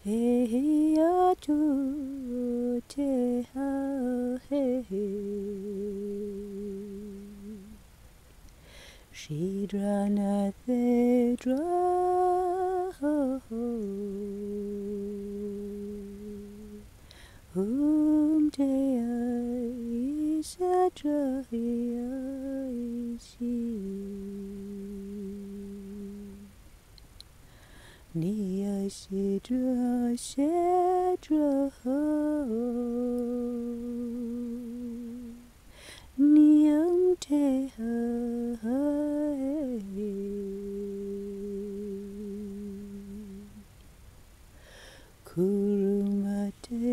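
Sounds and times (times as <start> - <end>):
person humming a slow melody: 0.0 - 7.8, 8.6 - 26.6, 28.1 - 43.7, 45.2 - 46.9.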